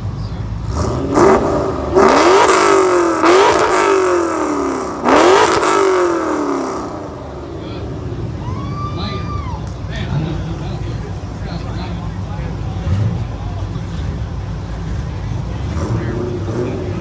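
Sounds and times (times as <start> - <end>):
car engine revving: 0.3 - 17.0.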